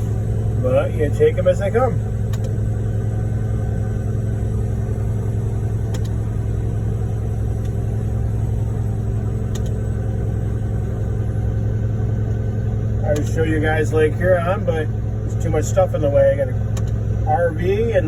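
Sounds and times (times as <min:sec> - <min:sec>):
diesel truck engine humming: 0:00.0 - 0:18.0.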